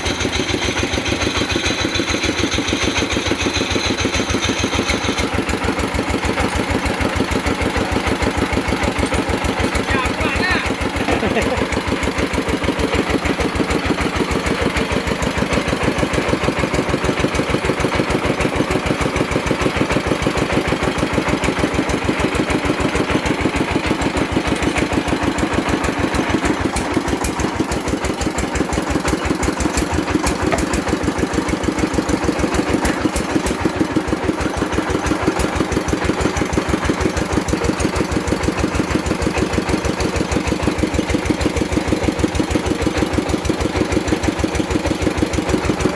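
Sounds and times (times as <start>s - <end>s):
drilling rig engine running: 0.0s - 45.9s.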